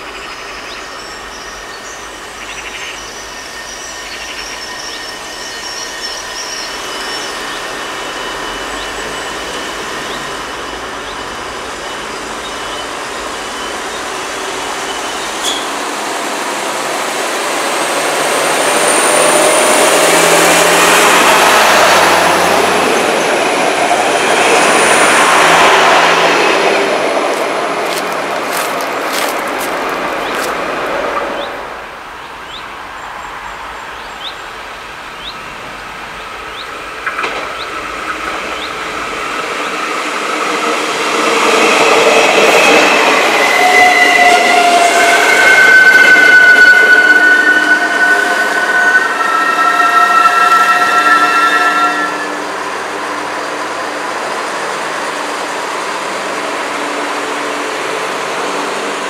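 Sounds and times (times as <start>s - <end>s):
diesel railcar approaching: 0.0s - 59.0s
high steady squeal: 0.0s - 59.0s.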